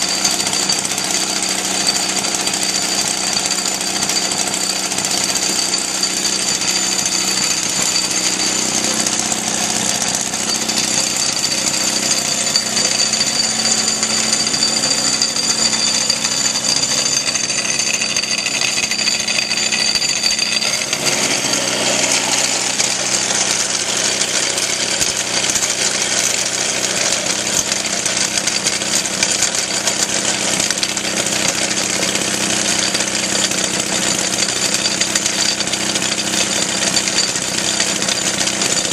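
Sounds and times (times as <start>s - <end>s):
two-stroke engine running: 0.0s - 38.9s.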